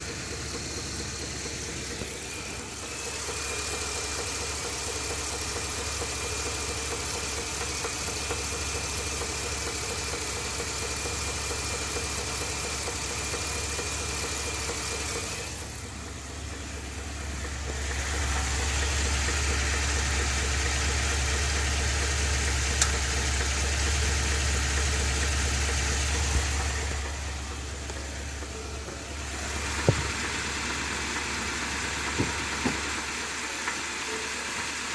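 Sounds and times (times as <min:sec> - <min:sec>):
engine running with abnormal noise: 0:00.0 - 0:34.9.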